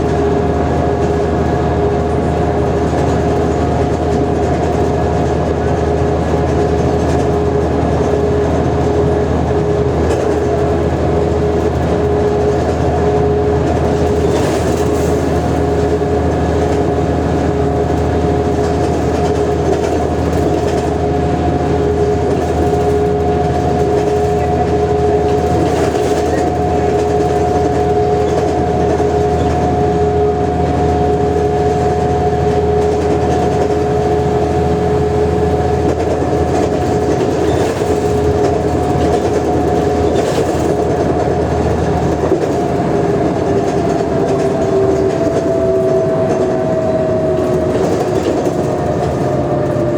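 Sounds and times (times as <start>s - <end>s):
diesel bus engine droning: 0.0s - 49.9s
road noise: 0.0s - 49.9s.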